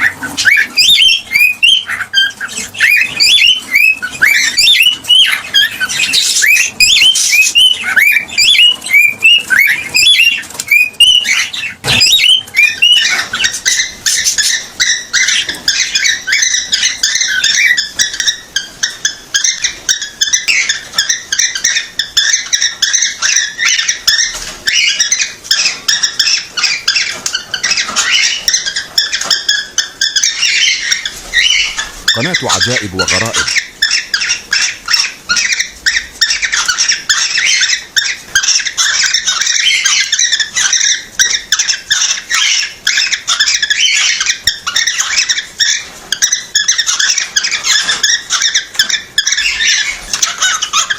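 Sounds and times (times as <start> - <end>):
cockatiel chattering: 0.0 - 50.9
cockatiel chirping: 0.0 - 50.9.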